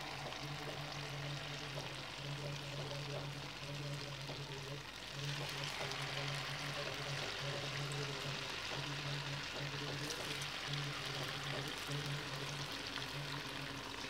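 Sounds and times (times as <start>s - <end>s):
intermittent low hum: 0.0s - 14.0s
oil frying sizzle: 0.0s - 14.0s.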